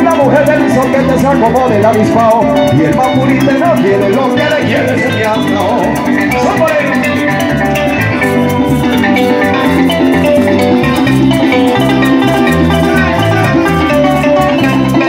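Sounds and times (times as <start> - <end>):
electric bass: 0.0 - 15.0
harp plucking fast runs: 0.0 - 15.0
maracas shaking: 0.0 - 15.0
small guitar plucking: 0.0 - 15.0.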